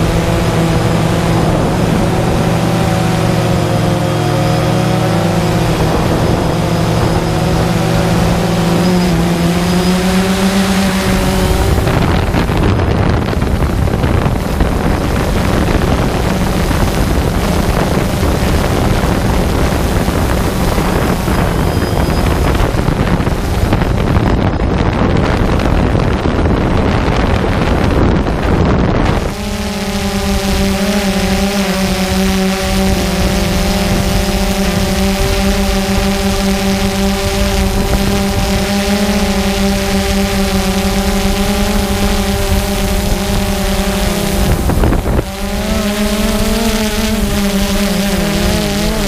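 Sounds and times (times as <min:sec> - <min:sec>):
drone propellers whining: 0:00.0 - 0:49.0
wind noise on microphone: 0:00.0 - 0:49.0.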